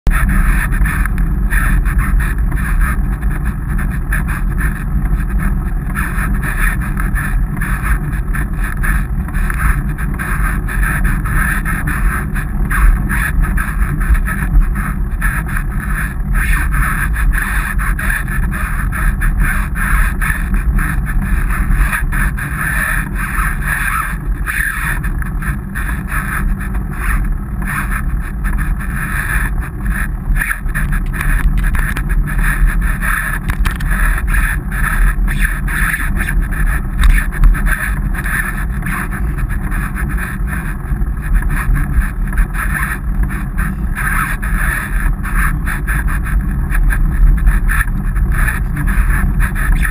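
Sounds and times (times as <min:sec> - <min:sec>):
road rumble: 0:00.1 - 0:49.9
wind on microphone: 0:00.1 - 0:49.9.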